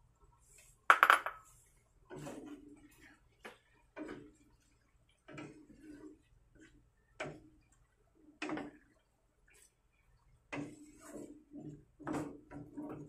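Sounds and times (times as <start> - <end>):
wooden spatula scraping a pan: 1.6 - 7.7, 8.4 - 13.0.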